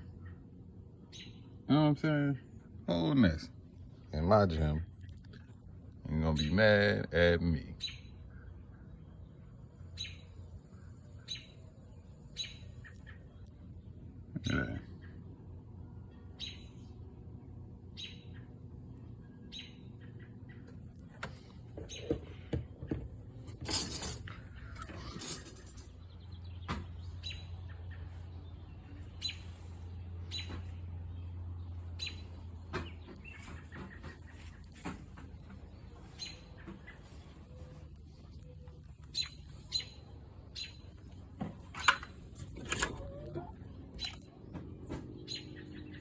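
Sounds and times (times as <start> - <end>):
low steady hum: 0.0 - 46.0
small birds chirping: 0.0 - 46.0.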